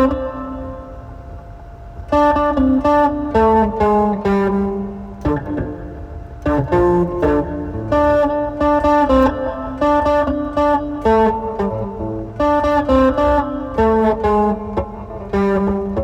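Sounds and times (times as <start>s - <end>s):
electric guitar riff: 0.0s - 16.0s.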